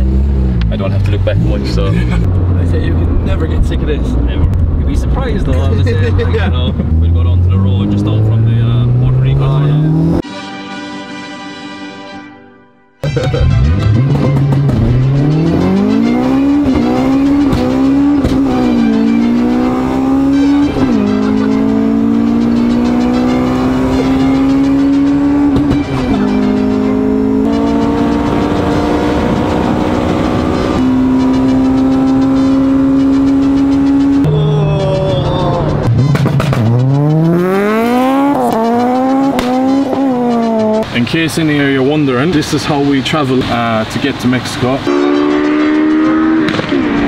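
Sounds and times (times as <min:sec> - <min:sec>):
car engine accelerating: 0:00.0 - 0:10.2, 0:13.0 - 0:47.0.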